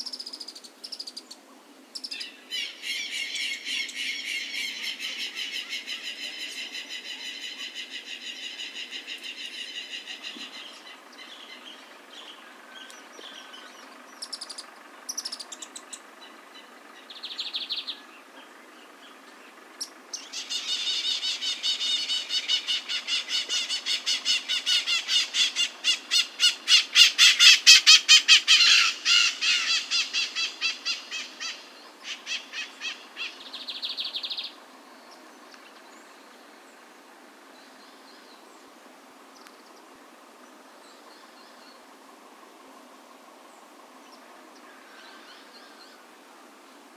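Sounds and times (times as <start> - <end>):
bird singing: 0.0 - 46.9.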